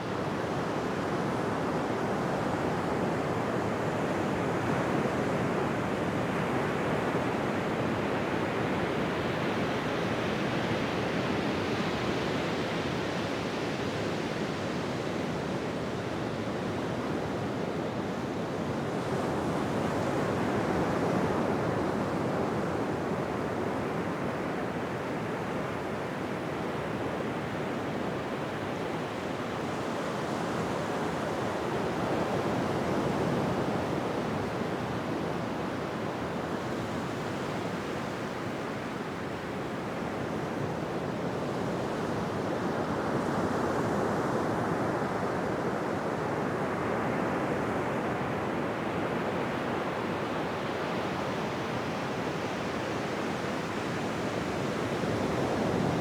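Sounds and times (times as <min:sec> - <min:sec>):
ocean waves breaking on a beach: 0:00.1 - 0:56.0.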